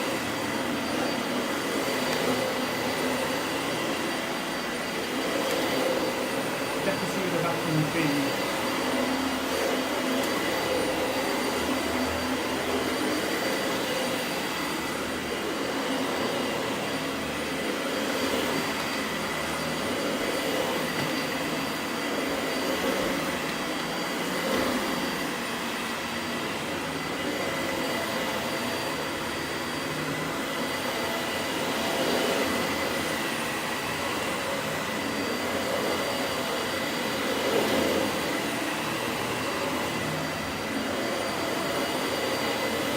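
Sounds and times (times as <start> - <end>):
vacuum cleaner running on a rug: 0.0 - 42.9.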